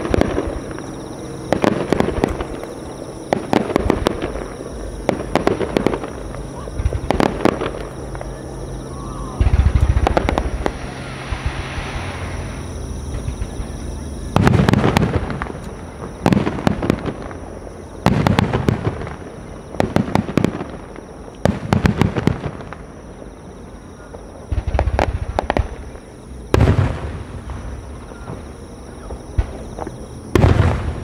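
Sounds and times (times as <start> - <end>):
firework shells booming: 0.0 - 8.3, 9.3 - 22.9, 24.5 - 31.0
sharp crackles of fireworks: 0.0 - 31.0.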